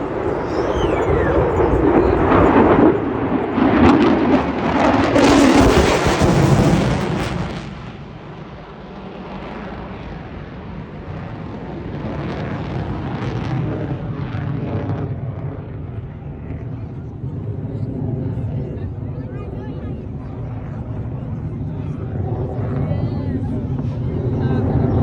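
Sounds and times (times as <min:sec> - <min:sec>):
fighter jet flying past: 0:00.0 - 0:25.0.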